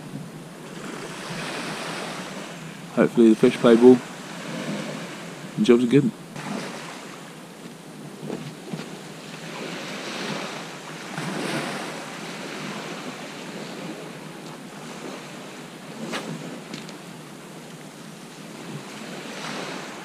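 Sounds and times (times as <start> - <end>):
surf on shingle beach: 0.0 - 20.0
wind on microphone: 0.0 - 20.0.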